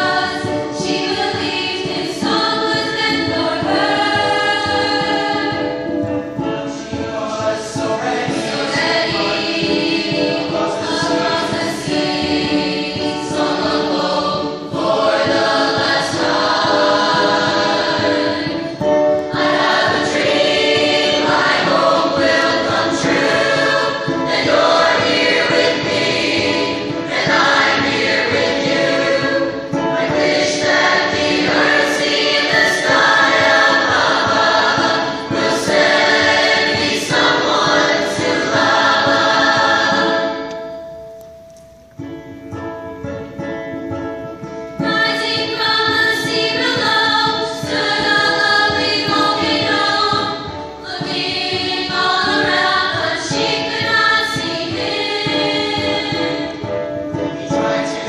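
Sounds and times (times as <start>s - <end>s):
children's choir singing: 0.0s - 41.0s, 44.8s - 58.0s.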